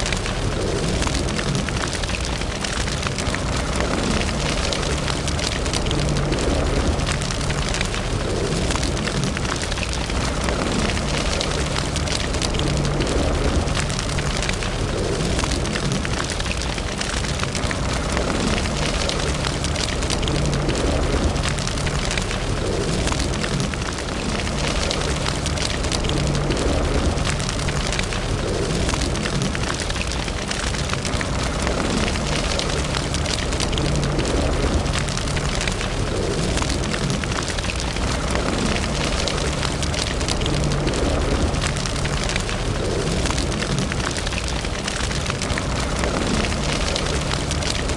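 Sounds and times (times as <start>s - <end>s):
fire burning in fireplace: 0.0s - 47.9s
wood crackling and popping: 0.0s - 47.9s.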